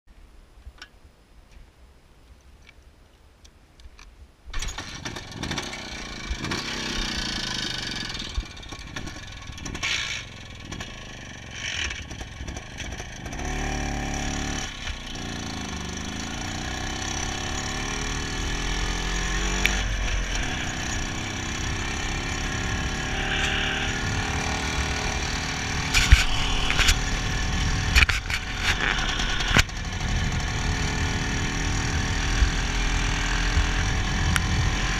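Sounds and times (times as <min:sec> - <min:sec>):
two-stroke motorcycle engine revving: 0:04.6 - 0:34.9.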